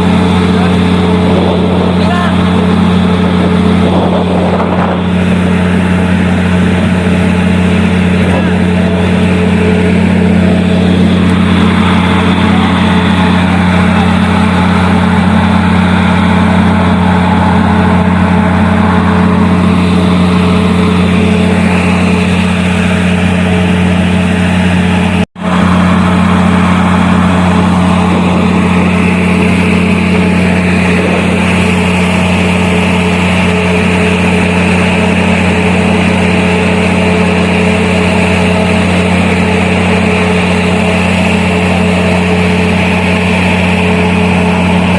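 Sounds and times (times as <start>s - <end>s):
heavy engine droning: 0.0s - 44.9s.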